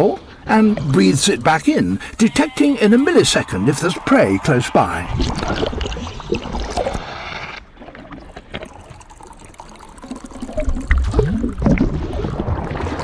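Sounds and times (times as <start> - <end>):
underwater trickling and bubbling: 0.0 - 13.0.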